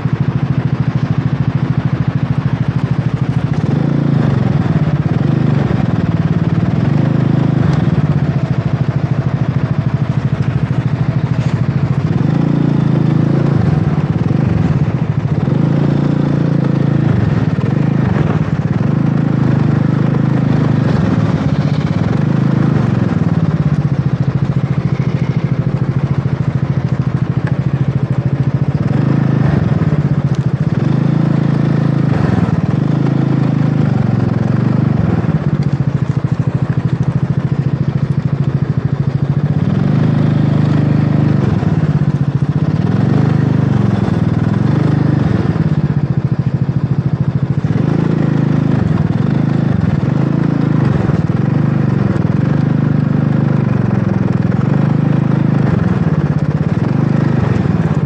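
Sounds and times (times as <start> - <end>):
scooter engine running: 0.0 - 58.0.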